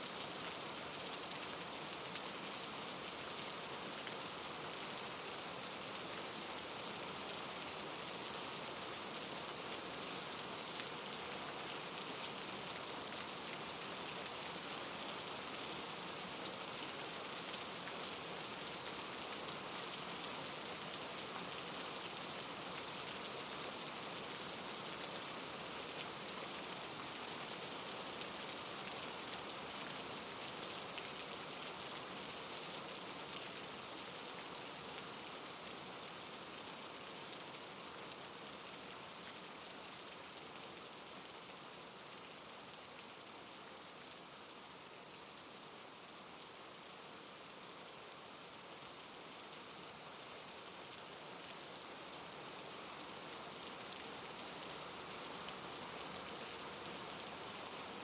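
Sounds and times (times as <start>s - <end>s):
soft rain hiss: 0.0s - 58.0s.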